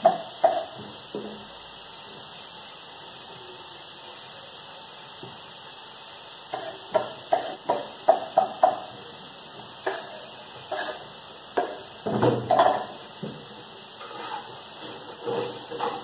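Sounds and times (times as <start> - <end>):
meat frying in a pan: 0.0 - 16.0.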